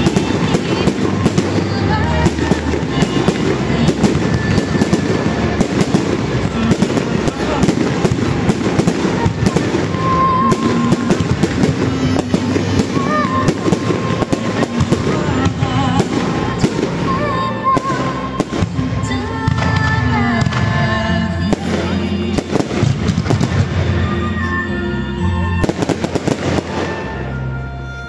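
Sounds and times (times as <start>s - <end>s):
fireworks bursting: 0.0s - 24.6s, 25.6s - 27.7s
music playing: 0.0s - 28.0s.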